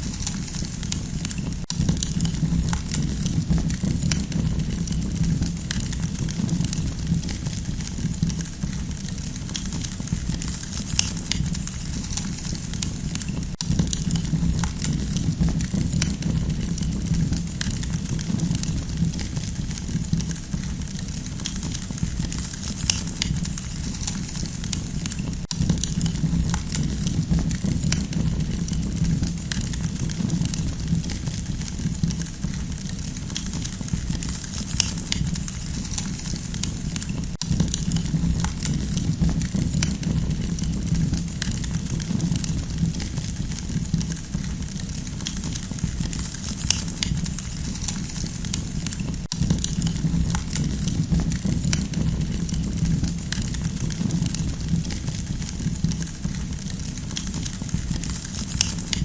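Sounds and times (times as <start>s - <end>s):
campfire crackling and popping: 0.0s - 59.0s
steady low rumble: 0.0s - 59.0s.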